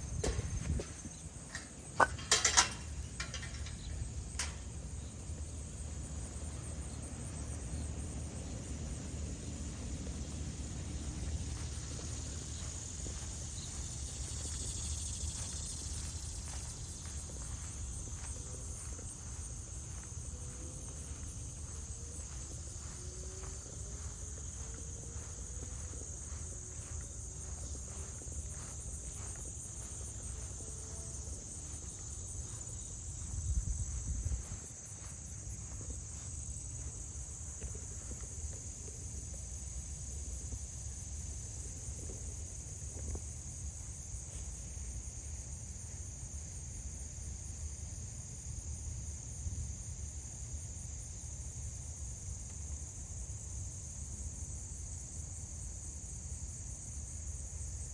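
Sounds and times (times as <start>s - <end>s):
insects trilling: 0.0s - 40.4s, 41.0s - 55.0s.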